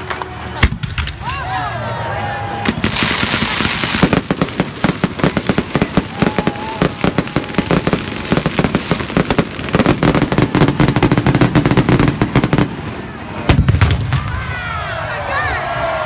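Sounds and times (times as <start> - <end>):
fireworks bangs and crackles: 0.0 - 1.3, 2.5 - 14.6.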